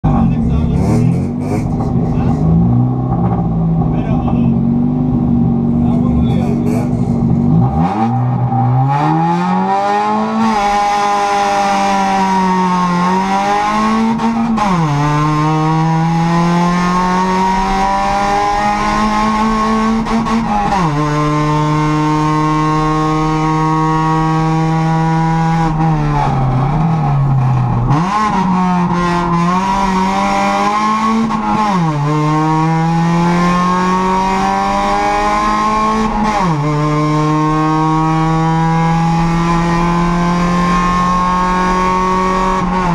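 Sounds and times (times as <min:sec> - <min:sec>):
race car engine accelerating: 0:00.1 - 0:42.9.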